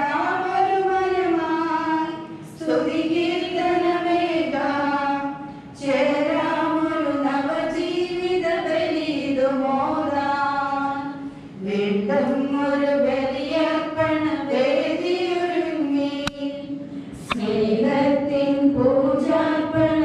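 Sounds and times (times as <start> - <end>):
voices singing a hymn: 0.0 - 20.0.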